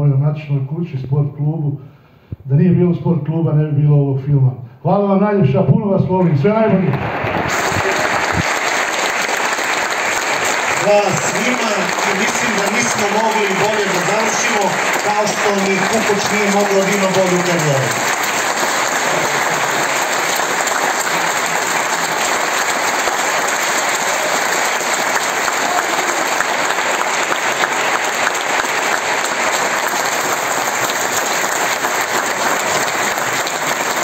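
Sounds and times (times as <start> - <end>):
audience applauding: 6.6 - 34.0.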